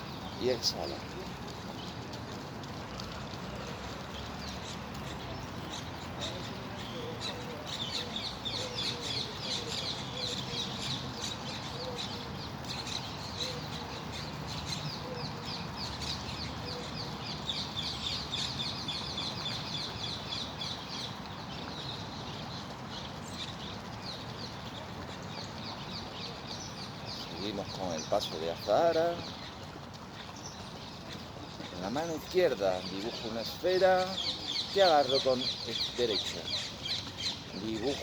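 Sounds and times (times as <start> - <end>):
birds chirping: 0.0 - 38.0
flowing water: 0.0 - 38.0.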